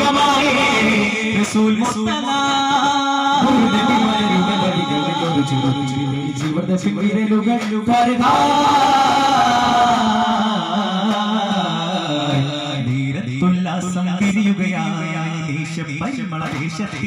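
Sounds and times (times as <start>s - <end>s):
men chanting devotional song: 0.0s - 17.0s.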